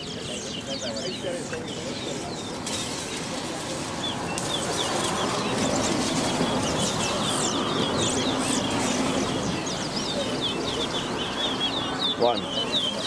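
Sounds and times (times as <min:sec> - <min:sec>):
finches singing: 0:00.0 - 0:03.2, 0:03.8 - 0:13.0
steady background noise: 0:00.0 - 0:13.0.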